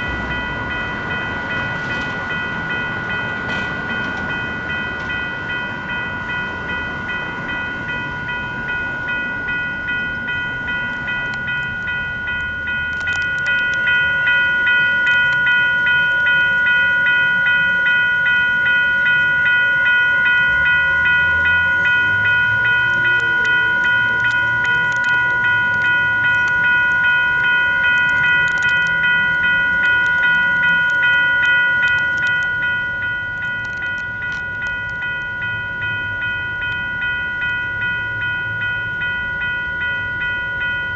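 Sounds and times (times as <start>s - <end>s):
electronic crossing bell ringing: 0.0s - 40.9s
low train rumble: 0.0s - 40.9s.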